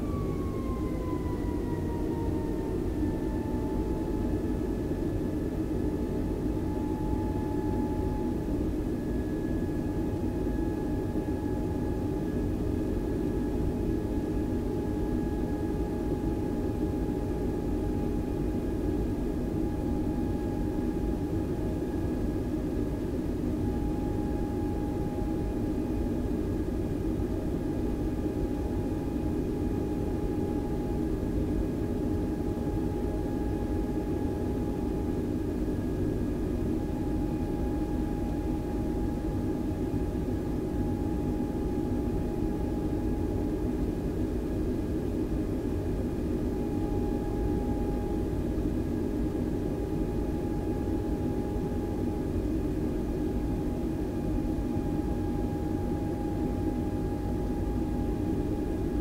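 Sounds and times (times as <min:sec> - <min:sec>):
aircraft cabin engine rumble: 0:00.0 - 0:59.0
thin whine: 0:00.0 - 0:59.0.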